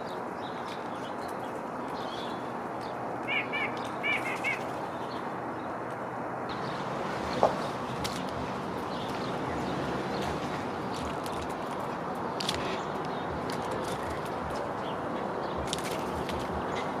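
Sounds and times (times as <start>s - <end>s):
songbird chirping: 0.0s - 5.8s, 6.5s - 17.0s.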